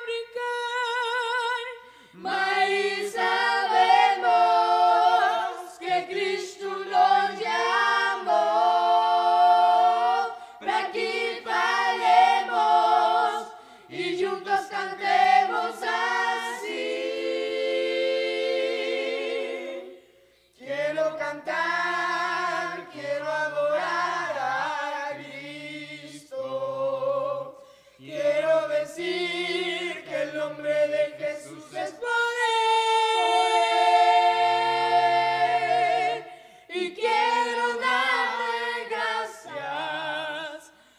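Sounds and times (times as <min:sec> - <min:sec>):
boys singing a cappella harmony: 0:00.0 - 0:40.9.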